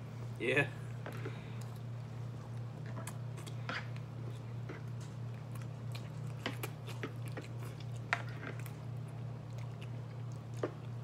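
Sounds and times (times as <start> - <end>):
steady low hum: 0.0 - 11.0
slurping and chewing: 1.1 - 11.0.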